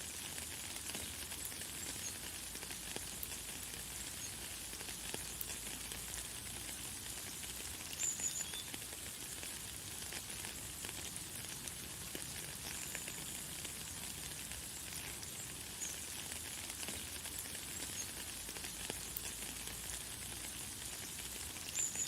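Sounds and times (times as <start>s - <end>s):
light rain pattering: 0.0s - 22.0s.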